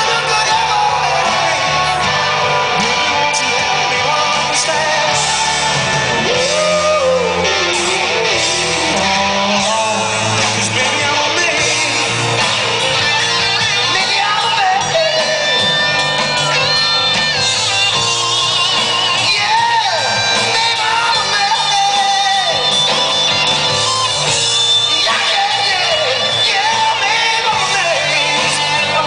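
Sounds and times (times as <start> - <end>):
drums: 0.0 - 29.0
electric guitar: 0.0 - 29.0
person singing: 0.0 - 29.0.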